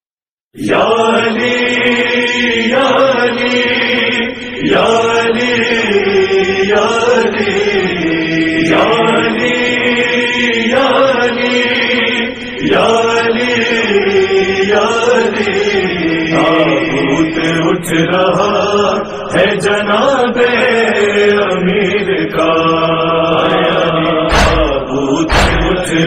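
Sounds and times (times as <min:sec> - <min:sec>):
men chanting a lament: 0:00.6 - 0:26.0.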